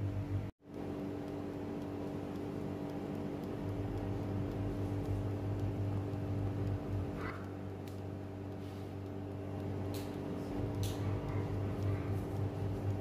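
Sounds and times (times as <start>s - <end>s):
air fryer humming: 0.0s - 13.0s.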